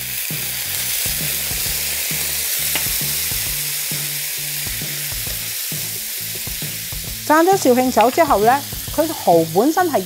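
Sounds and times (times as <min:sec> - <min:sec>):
oysters sizzling in hot oil: 0:00.0 - 0:10.0.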